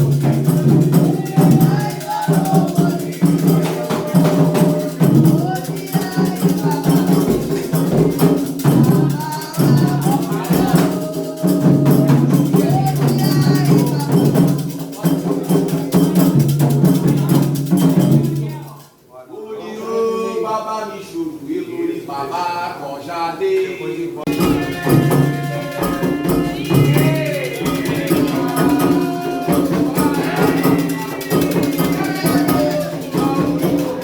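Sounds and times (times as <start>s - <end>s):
hand drums beating fast rhythm: 0.0s - 18.8s, 24.3s - 34.0s
voices singing: 0.0s - 34.0s.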